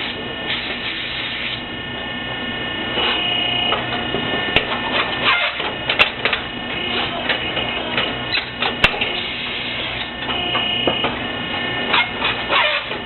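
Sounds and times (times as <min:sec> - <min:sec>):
machine whine: 0:00.0 - 0:13.0.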